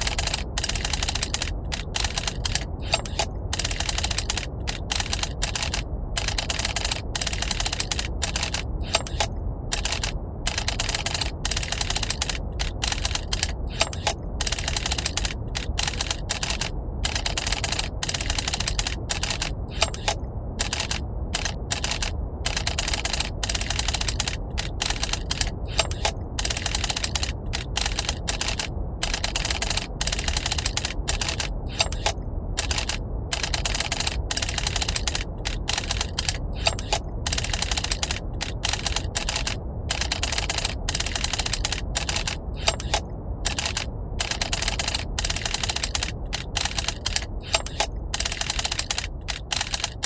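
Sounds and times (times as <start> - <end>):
low rumble: 0.0 - 50.0.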